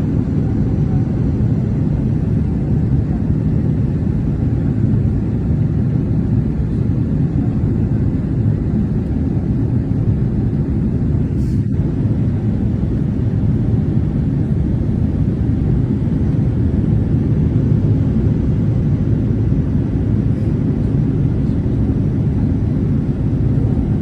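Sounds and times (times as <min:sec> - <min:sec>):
airliner engines rumbling: 0:00.0 - 0:24.0.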